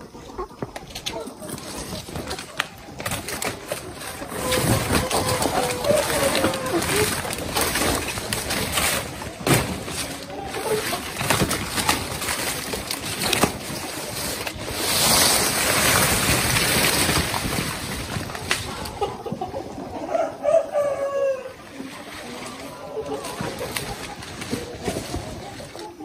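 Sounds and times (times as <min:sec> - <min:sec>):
chickens calling: 0:00.0 - 0:26.0
leaves rustling and crackling: 0:00.2 - 0:20.0, 0:21.4 - 0:26.0.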